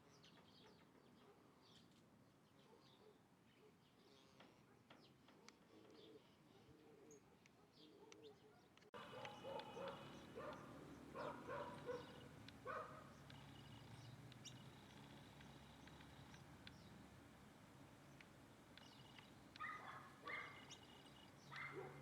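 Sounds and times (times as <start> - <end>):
birds calling: 4.0 - 22.0.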